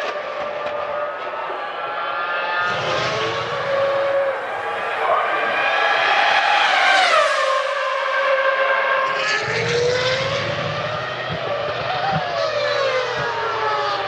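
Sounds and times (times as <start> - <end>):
racing car engine revving: 2.2 - 14.0.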